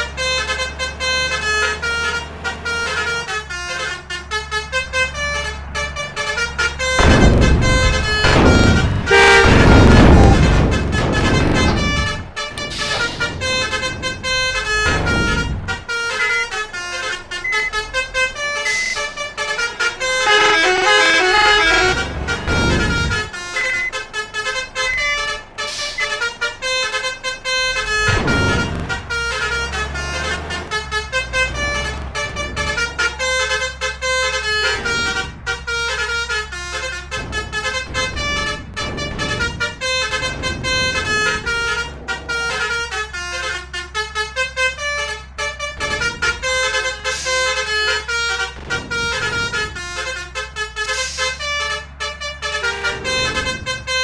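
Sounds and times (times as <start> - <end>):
engines rumbling: 0.0 - 54.0
musical vehicle horns: 0.0 - 54.0.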